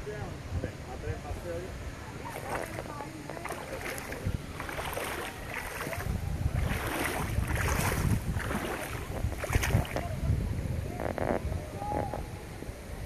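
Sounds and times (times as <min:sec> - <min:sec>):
river water flowing: 0:00.0 - 0:13.0
wind buffeting microphone: 0:00.0 - 0:13.0.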